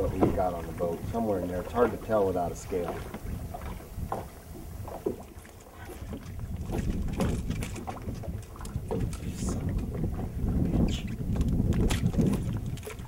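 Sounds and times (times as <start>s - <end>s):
water lapping at boat hull: 0.0s - 13.0s
wind rumbling on microphone: 0.0s - 13.0s.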